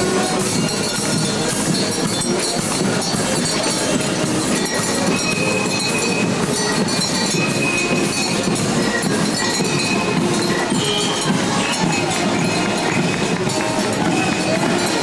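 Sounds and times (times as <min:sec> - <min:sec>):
high wheel squeaks: 0:00.0 - 0:15.0
wagon wheels rolling on pavement: 0:00.0 - 0:15.0.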